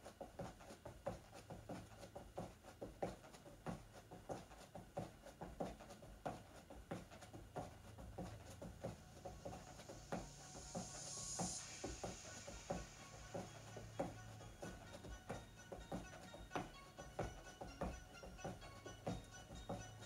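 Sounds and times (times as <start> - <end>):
footfalls on exercise mat: 0.0 - 20.0.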